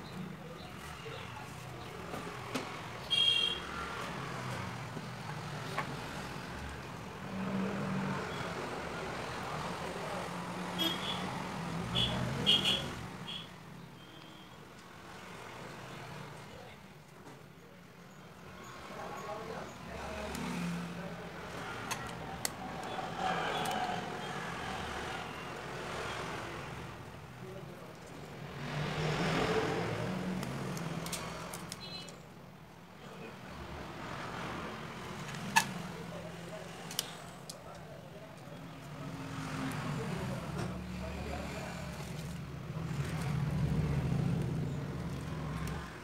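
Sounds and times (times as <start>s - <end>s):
traffic-like background hum: 0.0s - 46.0s.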